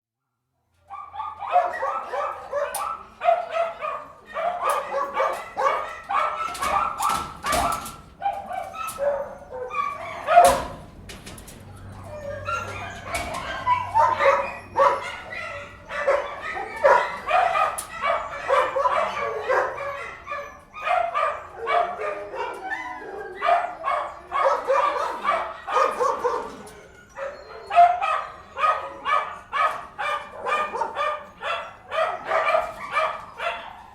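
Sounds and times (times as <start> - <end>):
dogs barking: 0.9 - 11.0, 11.9 - 33.9.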